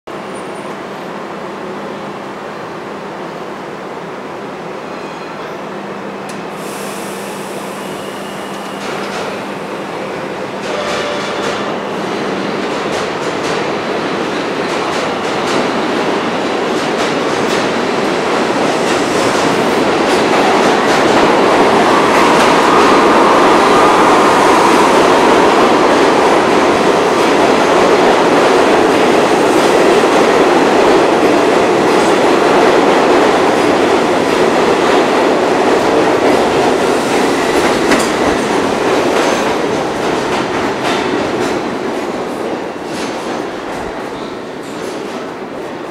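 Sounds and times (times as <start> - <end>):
subway train running past: 0.1 - 45.9.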